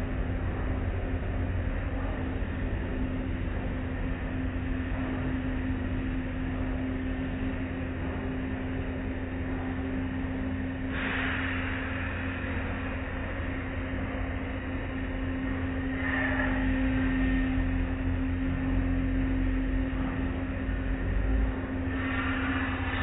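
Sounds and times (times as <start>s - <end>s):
machinery humming and rumbling: 0.0s - 23.0s.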